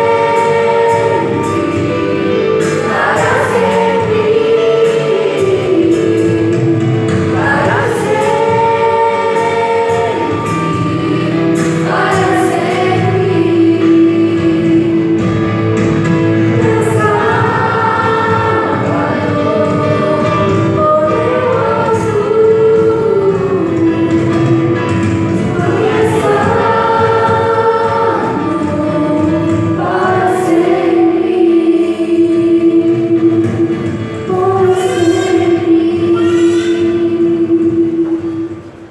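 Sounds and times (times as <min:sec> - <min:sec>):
children's choir singing: 0:00.0 - 0:38.9.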